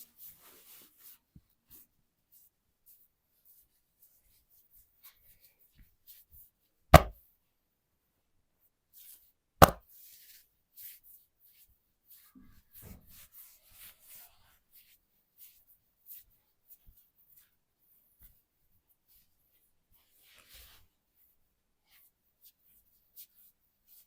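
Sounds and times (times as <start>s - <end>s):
hands rustling on skin and cloth: 0.0s - 7.1s, 8.9s - 24.0s.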